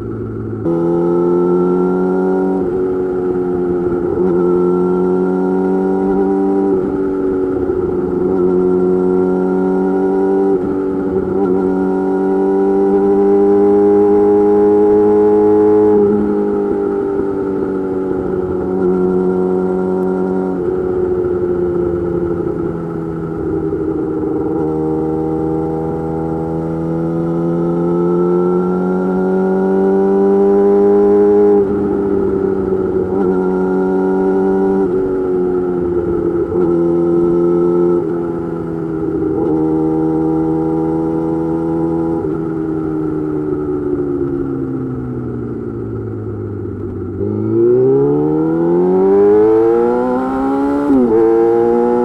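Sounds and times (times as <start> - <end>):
motorcycle engine shifting gears: 0.0 - 52.0.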